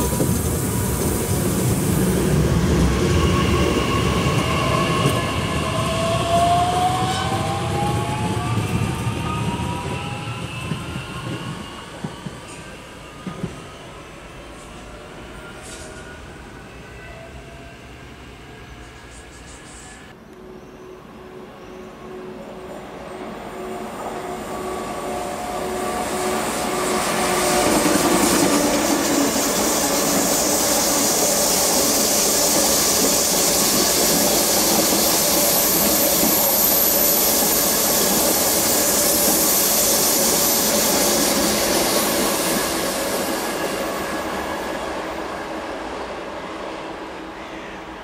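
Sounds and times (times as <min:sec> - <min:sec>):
high-speed train rushing past: 0:00.0 - 0:48.0
train whine: 0:00.0 - 0:48.0.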